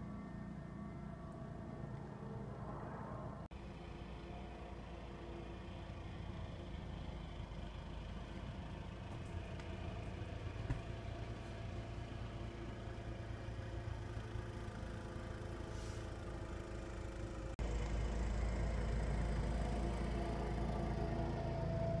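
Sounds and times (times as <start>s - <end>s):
tractor engine running under load: 3.6s - 22.0s.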